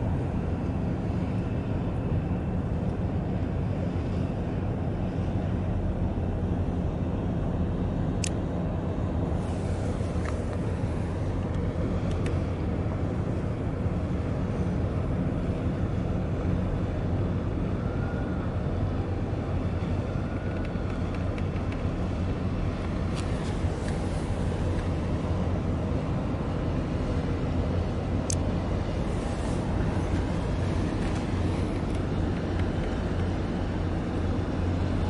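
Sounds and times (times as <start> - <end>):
ship engines rumbling: 0.0 - 35.0.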